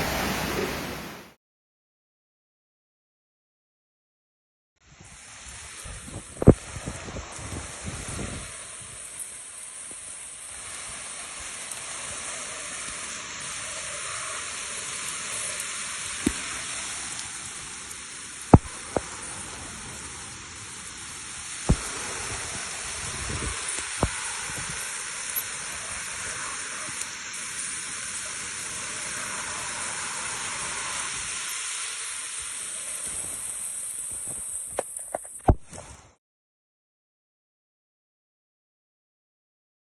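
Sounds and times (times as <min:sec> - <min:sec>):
rushing floodwater: 0:00.0 - 0:01.4, 0:04.9 - 0:36.2.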